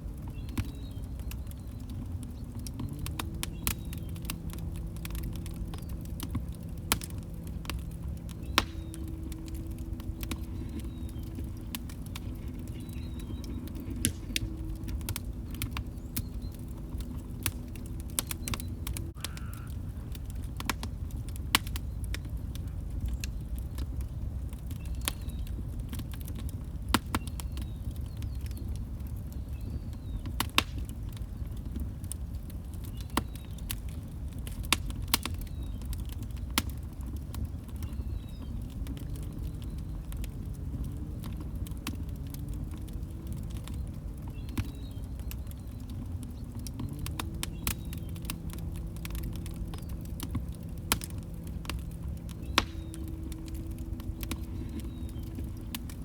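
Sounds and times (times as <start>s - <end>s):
log fire crackling and popping: 0.0s - 56.0s.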